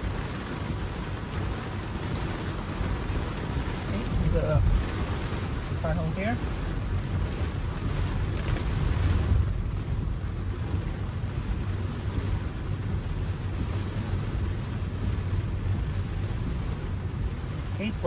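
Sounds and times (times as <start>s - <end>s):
low road rumble: 0.0s - 18.0s
tyres hissing on wet road: 0.0s - 18.0s.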